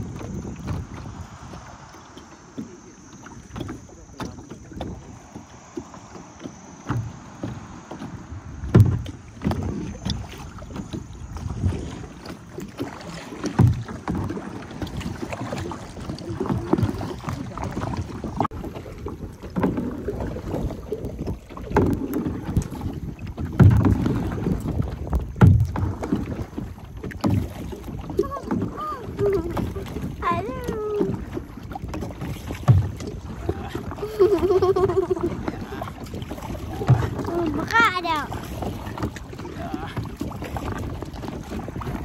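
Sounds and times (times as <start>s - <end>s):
paddle blades splashing: 0.0s - 42.0s
water sloshing against hull: 0.0s - 42.0s
wind buffeting microphone: 0.0s - 42.0s.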